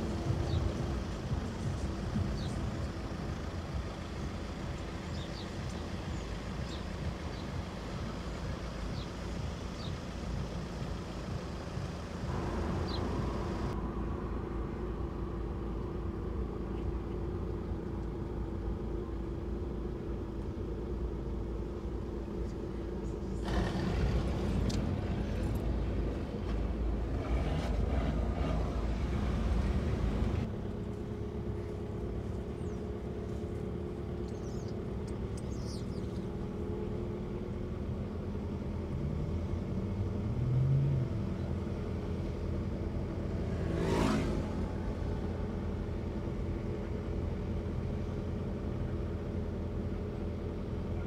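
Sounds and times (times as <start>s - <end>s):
road noise: 0.0s - 51.0s
vehicle engine rumble: 0.0s - 51.0s.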